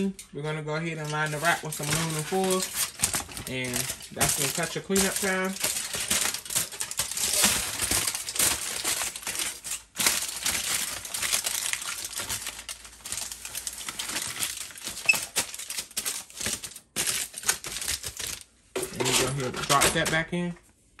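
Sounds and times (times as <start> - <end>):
aluminum foil crinkling: 0.0 - 20.3.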